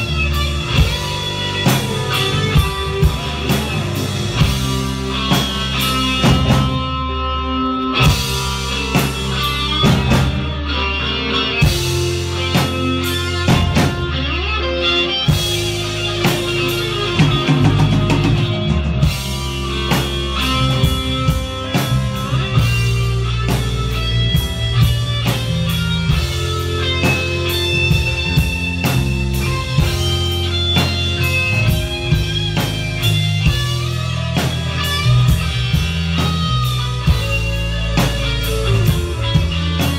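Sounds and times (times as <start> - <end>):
drum kit: 0.0 - 39.9
electric guitar melody: 0.0 - 39.9
low bass notes: 0.0 - 39.9.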